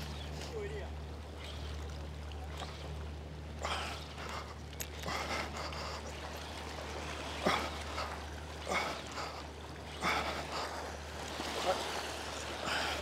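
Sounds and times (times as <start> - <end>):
steady low hum: 0.0 - 13.0
waves lapping against rocks: 0.0 - 13.0.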